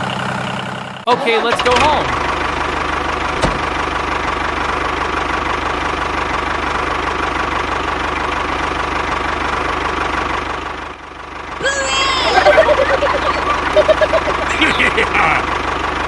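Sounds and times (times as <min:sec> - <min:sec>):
tractor engine chugging: 0:00.0 - 0:16.0.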